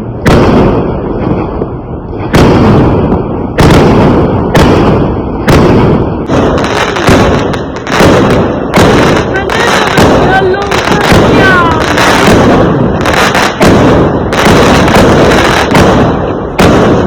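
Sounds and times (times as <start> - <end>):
fireworks bangs with rumble: 0.0 - 17.0.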